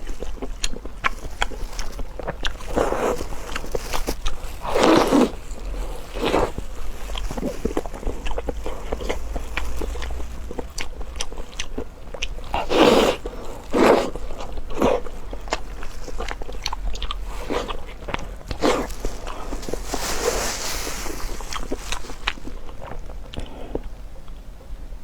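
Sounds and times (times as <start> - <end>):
chewing and biting food: 0.0 - 24.5.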